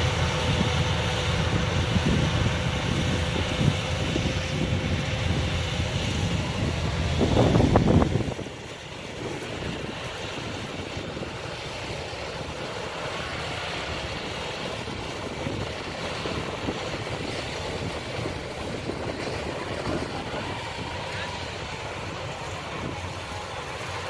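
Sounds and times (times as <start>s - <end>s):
distant combine harvester running: 0.0s - 24.0s.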